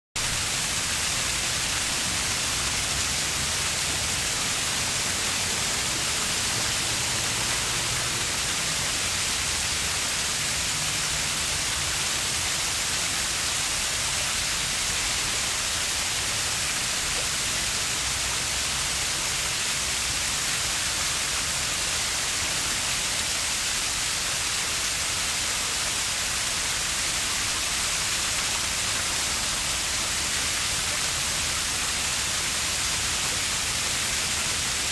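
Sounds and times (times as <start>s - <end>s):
river water flowing: 0.2s - 34.9s.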